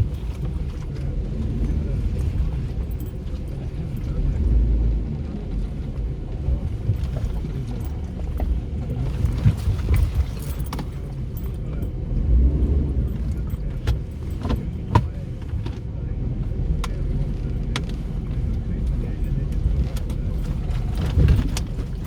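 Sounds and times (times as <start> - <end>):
engine and tyre rumble: 0.0 - 22.0
knocks and rattles of loose gear: 0.0 - 22.0.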